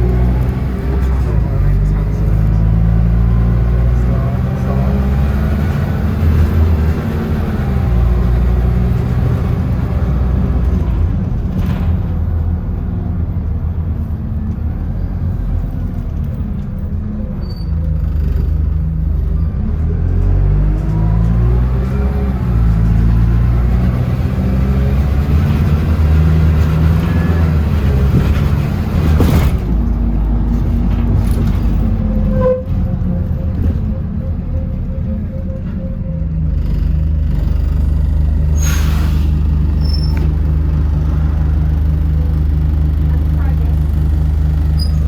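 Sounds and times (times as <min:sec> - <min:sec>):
bus engine accelerating: 0:00.0 - 0:45.0.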